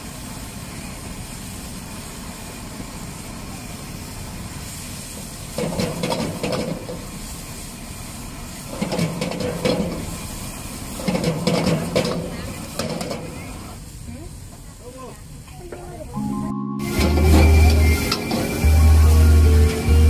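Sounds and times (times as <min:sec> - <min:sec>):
vegetables sizzling in a wok: 0:00.0 - 0:20.0.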